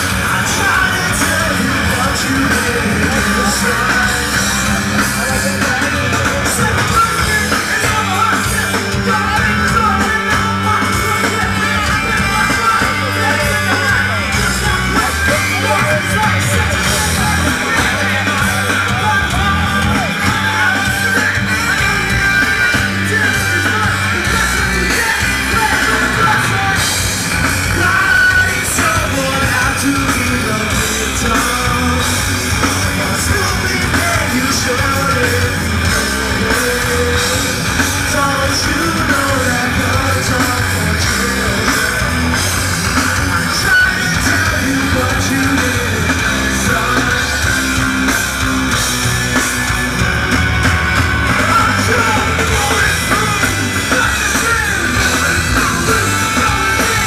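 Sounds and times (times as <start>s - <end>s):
shouted vocals: 0.0s - 48.7s, 49.8s - 57.0s
drum kit: 0.0s - 57.0s
electric guitar: 0.0s - 57.0s.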